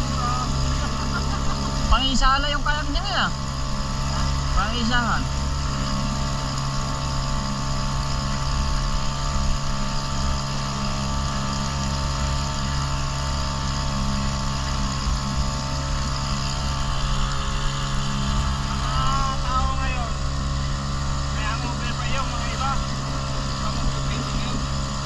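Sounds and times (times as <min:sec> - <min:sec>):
motorboat engine running: 0:00.0 - 0:25.0.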